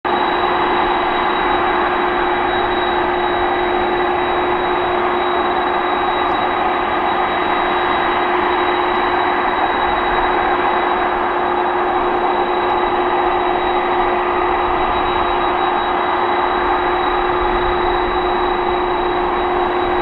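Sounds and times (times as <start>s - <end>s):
jet engines idling: 0.1s - 20.0s.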